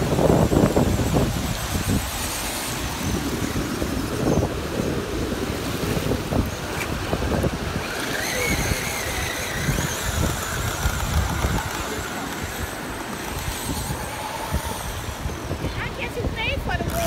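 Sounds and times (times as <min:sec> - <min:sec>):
toy truck electric motor whining: 0:00.0 - 0:05.2, 0:06.6 - 0:15.6
surf hissing: 0:00.0 - 0:17.0
wind on microphone: 0:00.0 - 0:17.0.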